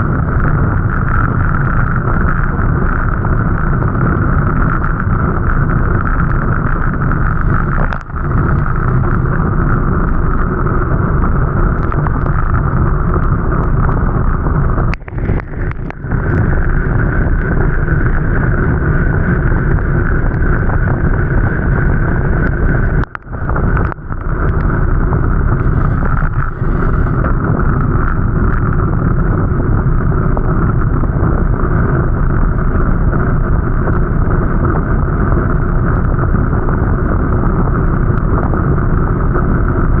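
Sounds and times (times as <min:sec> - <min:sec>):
wind on microphone: 0:00.0 - 0:40.0.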